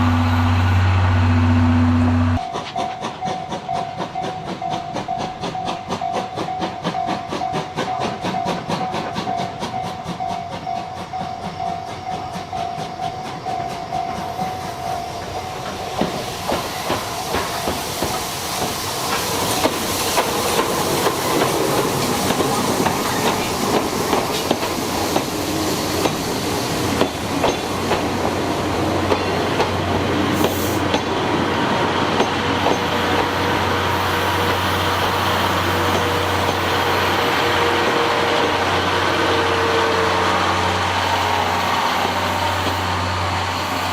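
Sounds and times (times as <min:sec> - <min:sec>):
train wheels clicking over rail joints: 0:02.4 - 0:39.5.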